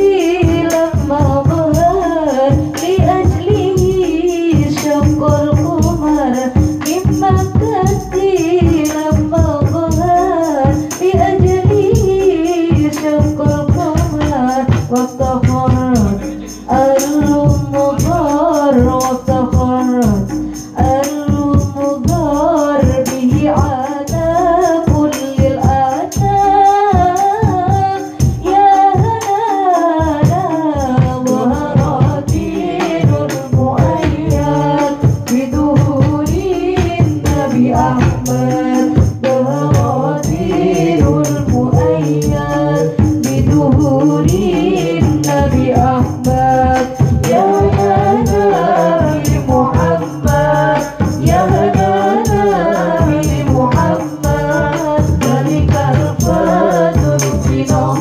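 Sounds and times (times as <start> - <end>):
frame drums and hand drums: 0.0 - 58.0
woman singing: 0.0 - 58.0.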